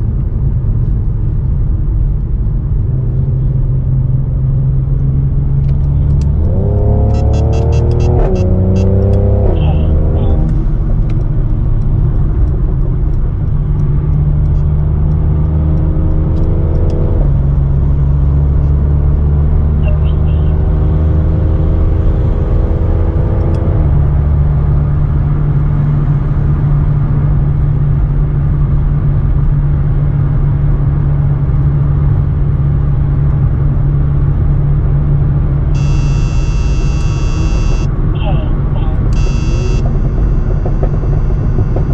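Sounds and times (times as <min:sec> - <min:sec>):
car engine and exhaust accelerating: 0:00.0 - 0:41.9.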